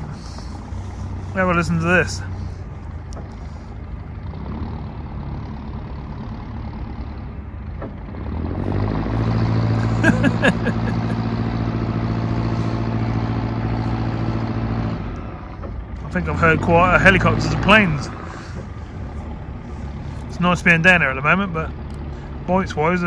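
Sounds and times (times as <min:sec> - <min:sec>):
boat engine chugging: 0:00.0 - 0:08.4, 0:09.1 - 0:23.0.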